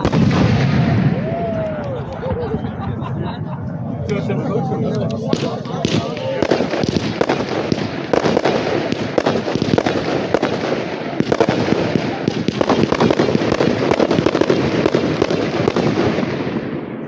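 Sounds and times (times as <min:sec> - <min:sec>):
fireworks bangs and crackling: 0:00.0 - 0:02.7, 0:04.9 - 0:17.0.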